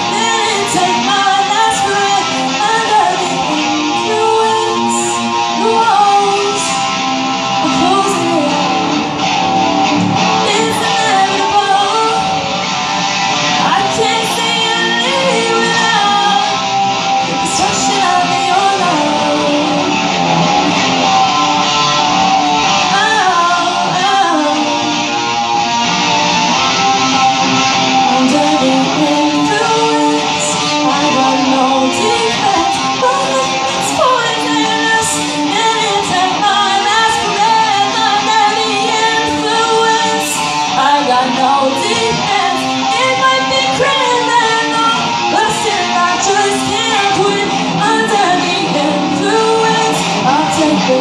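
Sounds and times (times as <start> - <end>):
woman singing: 0.0 - 9.0, 10.4 - 20.5, 22.5 - 25.0, 28.0 - 51.0
electric guitar: 0.0 - 51.0.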